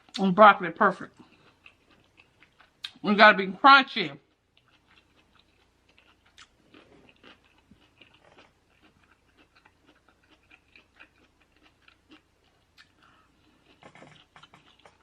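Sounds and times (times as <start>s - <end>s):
chewing crunchy broccoli: 0.0s - 3.0s, 4.2s - 15.0s.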